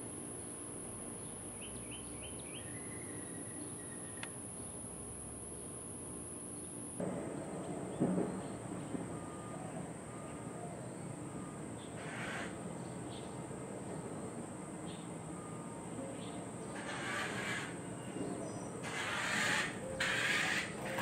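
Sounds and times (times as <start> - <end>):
crickets droning: 0.0 - 21.0.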